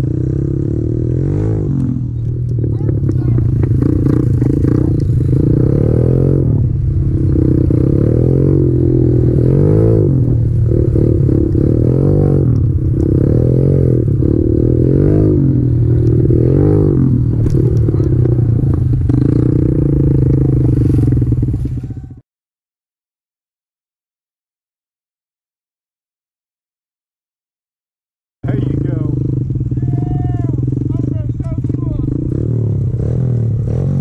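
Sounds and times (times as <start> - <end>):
motorbike engine revving: 0.0 - 22.2, 28.4 - 34.0.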